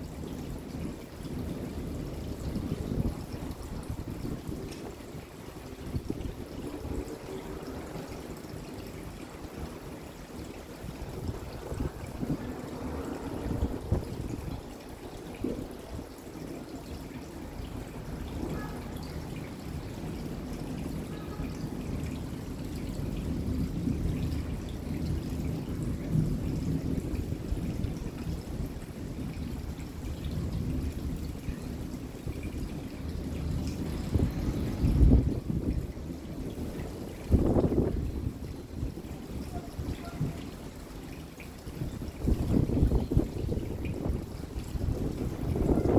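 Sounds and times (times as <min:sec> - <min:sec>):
steady rain falling: 0:00.0 - 0:45.9
water trickling and pouring: 0:00.0 - 0:45.9.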